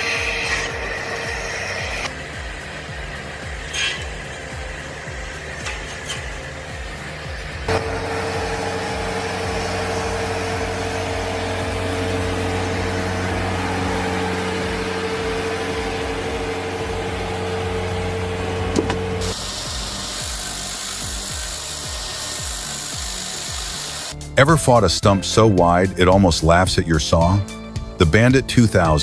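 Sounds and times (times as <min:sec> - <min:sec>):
rough machine sound: 0:00.0 - 0:24.9
heavy machine engine whining: 0:00.0 - 0:25.0.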